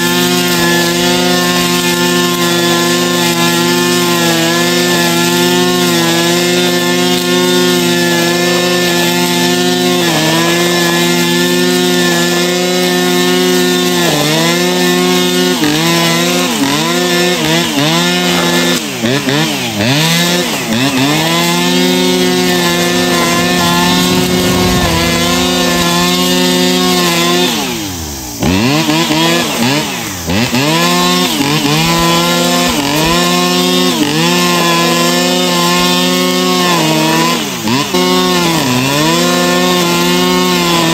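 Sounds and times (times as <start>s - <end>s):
brushcutter running: 0.0s - 40.9s.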